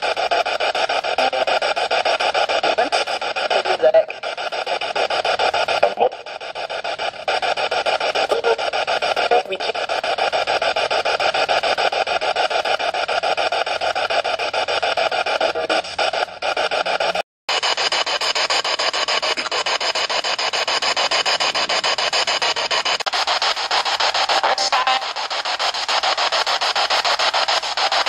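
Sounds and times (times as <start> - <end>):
radio static crackle: 0.0 - 28.0
snatches of broadcast sound: 0.0 - 28.0.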